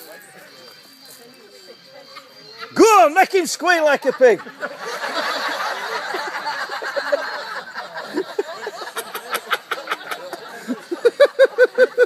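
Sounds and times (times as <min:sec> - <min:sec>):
people laughing: 0:01.7 - 0:12.0.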